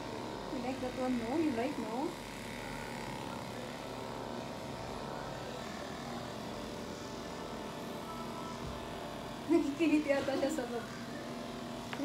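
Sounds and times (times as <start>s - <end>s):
electric clippers humming: 0.0s - 12.0s.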